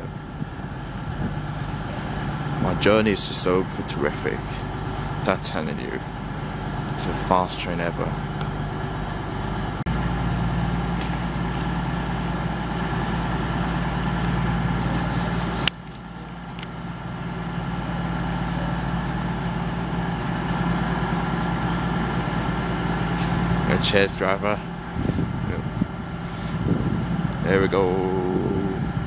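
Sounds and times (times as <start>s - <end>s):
diesel engines idling: 0.0s - 29.0s.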